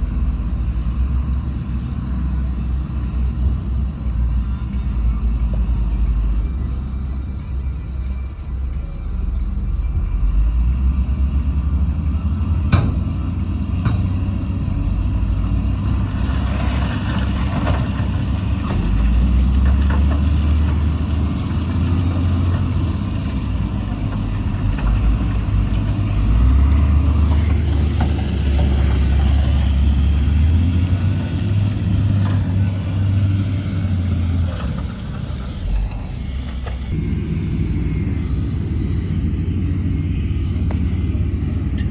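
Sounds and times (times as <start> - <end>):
diesel engines rumbling: 0.0 - 41.9.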